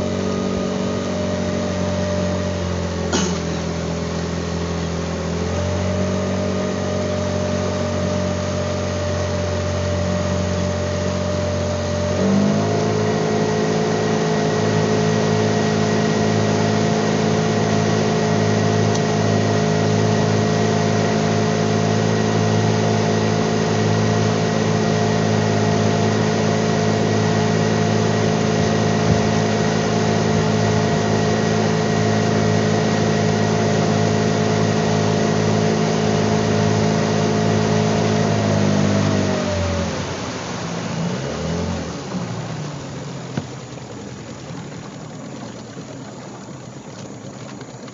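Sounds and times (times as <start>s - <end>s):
outboard motor running: 0.0s - 47.9s
water washing: 0.0s - 47.9s.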